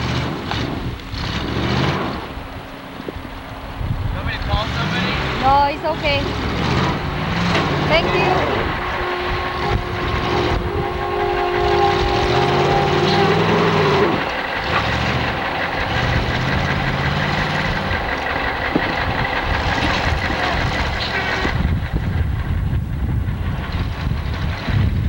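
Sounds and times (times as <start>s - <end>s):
loud vehicle noise: 0.0s - 25.0s
truck engine revving: 0.0s - 25.0s.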